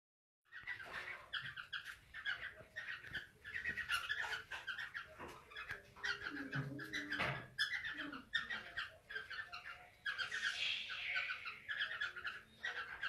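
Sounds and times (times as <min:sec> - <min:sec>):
cockatiels chirping: 0:00.5 - 0:13.0.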